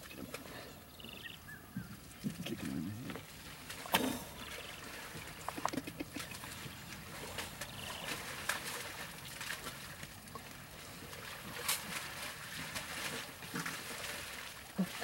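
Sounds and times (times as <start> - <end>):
wet mud sloshing: 1.4 - 15.0
mud splashes and slaps: 2.2 - 15.0.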